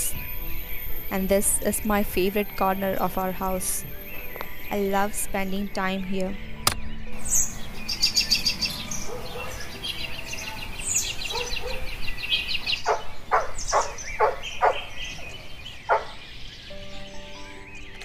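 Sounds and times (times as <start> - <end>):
birds chirping in trills: 0.0 - 18.0.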